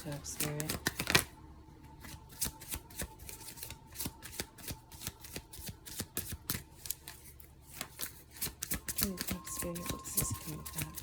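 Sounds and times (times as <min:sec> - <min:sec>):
cards being shuffled: 0:00.1 - 0:01.3, 0:02.0 - 0:11.0.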